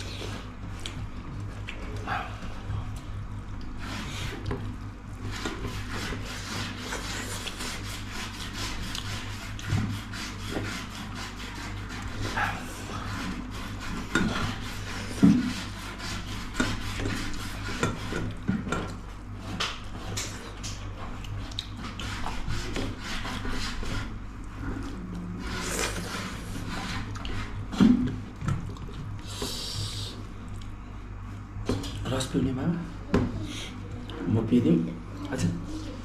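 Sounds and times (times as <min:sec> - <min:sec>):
low electrical hum: 0:00.0 - 0:36.0.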